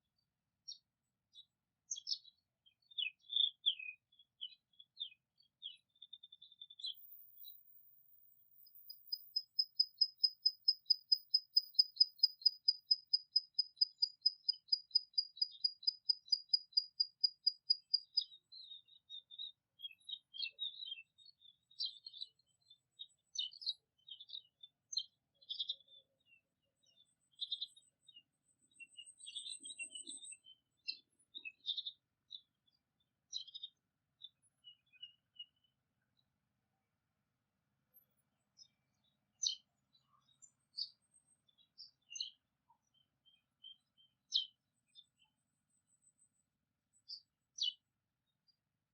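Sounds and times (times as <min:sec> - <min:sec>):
birdsong: 0:00.0 - 0:36.4, 0:37.9 - 0:48.6.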